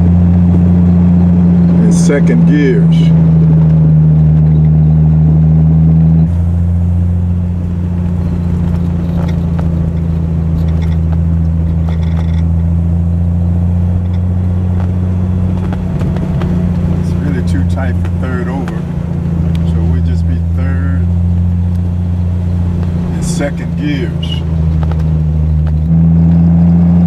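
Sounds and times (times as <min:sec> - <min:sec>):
car engine droning while driving: 0:00.0 - 0:27.0.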